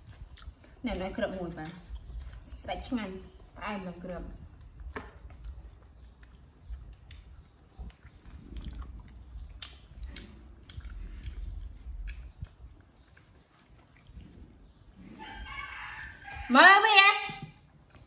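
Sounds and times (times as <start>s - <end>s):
monkey chewing fruit: 0.0s - 16.4s.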